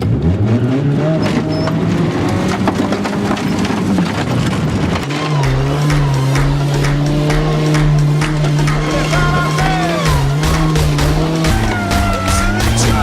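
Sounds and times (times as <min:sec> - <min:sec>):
car engine revving: 0:00.0 - 0:13.0
gravel striking car: 0:00.0 - 0:13.0.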